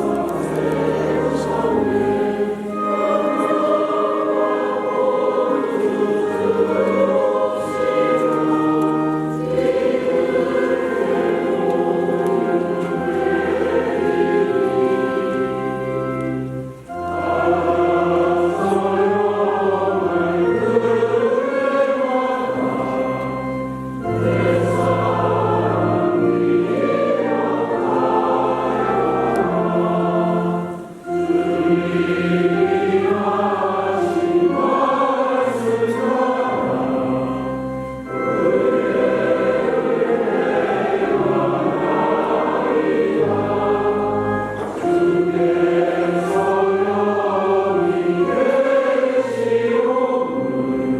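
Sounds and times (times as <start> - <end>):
church choir singing a hymn: 0.0 - 50.9.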